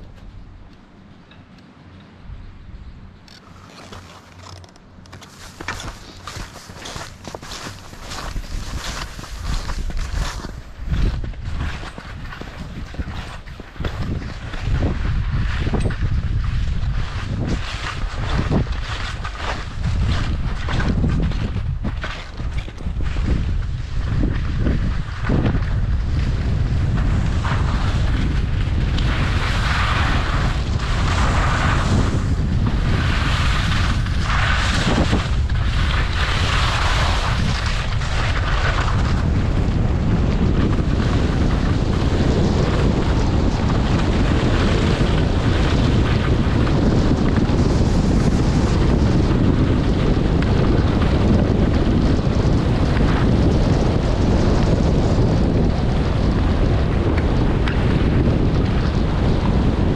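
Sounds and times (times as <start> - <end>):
wind rushing over microphone: 0.0 - 59.9
skis scraping across snow: 3.3 - 59.9.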